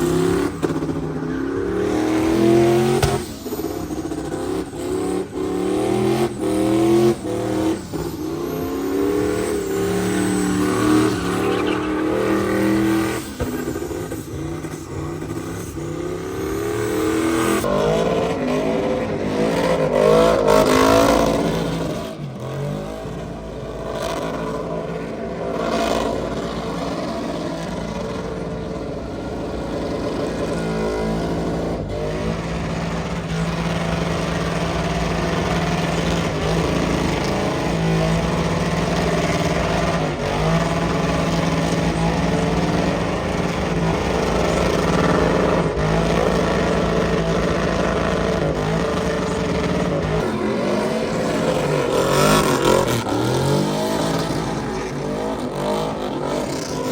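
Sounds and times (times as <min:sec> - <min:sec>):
truck engines revving: 0:00.0 - 0:56.9.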